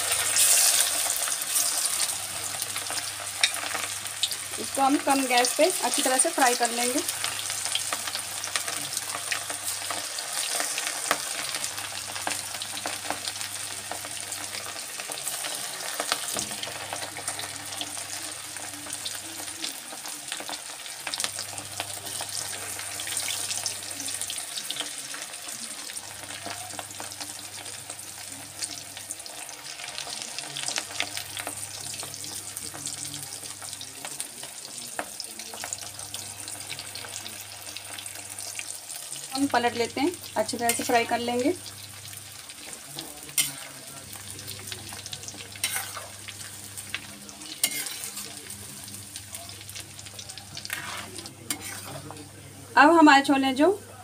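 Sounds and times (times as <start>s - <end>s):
chickpeas deep-frying in oil: 0.0s - 54.0s.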